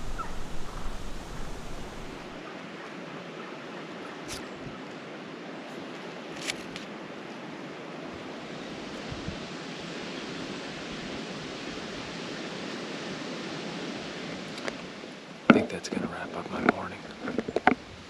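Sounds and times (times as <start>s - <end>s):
wind blowing through trees: 0.0s - 18.0s.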